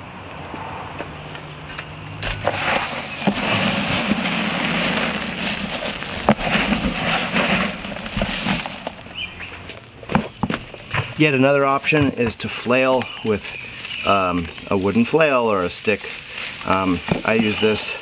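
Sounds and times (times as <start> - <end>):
straw rustling in rubber tub: 2.2 - 18.0.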